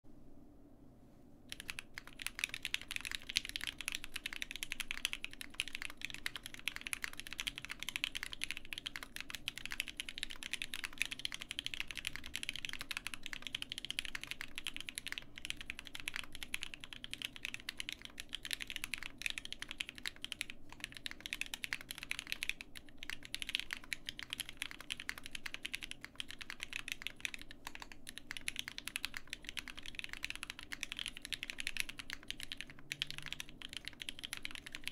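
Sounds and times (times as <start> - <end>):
fast typing on mechanical keyboard: 1.5 - 34.9.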